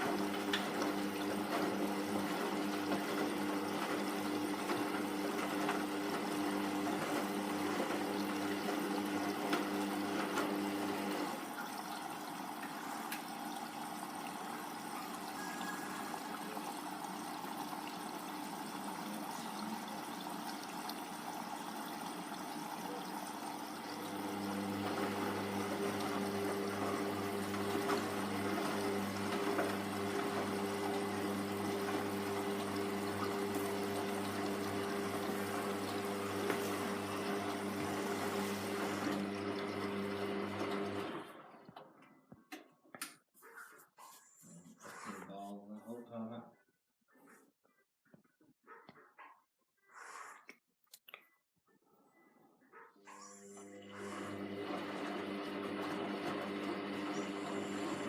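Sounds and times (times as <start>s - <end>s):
washing machine drum motor humming: 0.0s - 42.0s, 53.4s - 58.0s.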